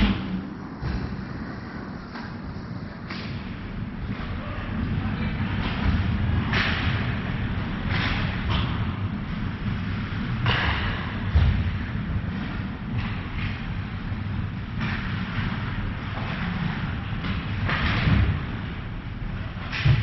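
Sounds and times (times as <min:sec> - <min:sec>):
hockey sticks and puck thudding: 0:00.0 - 0:04.4, 0:05.5 - 0:20.0
low rink rumble: 0:00.0 - 0:20.0.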